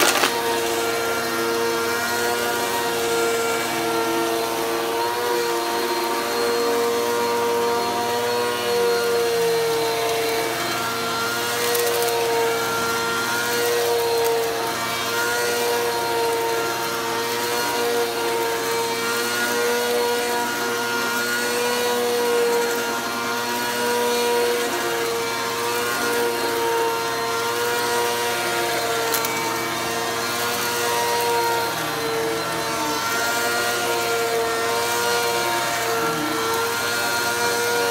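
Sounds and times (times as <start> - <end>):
vacuum cleaner running: 0.0 - 37.9.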